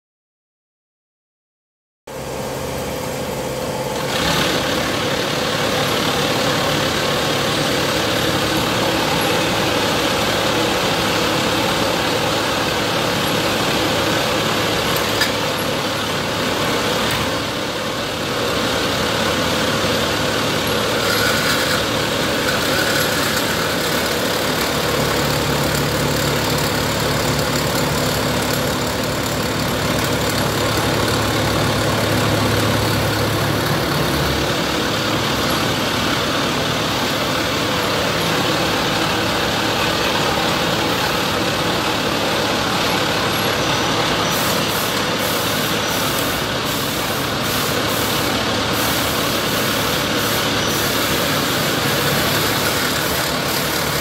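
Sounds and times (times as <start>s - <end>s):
swaging machine droning: 2.1s - 54.0s.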